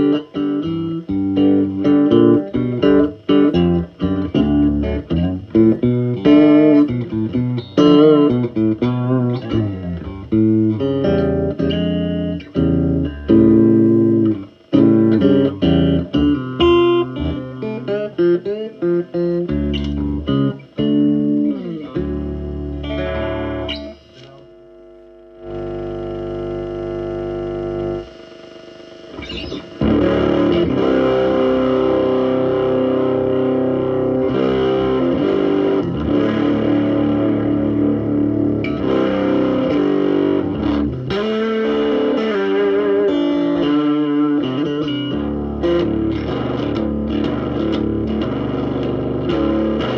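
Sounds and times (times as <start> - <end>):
electric guitar picked notes: 0.0 - 49.9
electric guitar strummed chords: 0.0 - 49.9.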